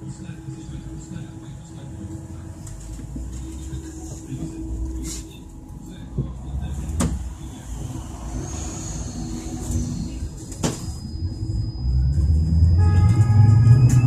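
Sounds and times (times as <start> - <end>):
bus rolling rumble: 0.0 - 14.0.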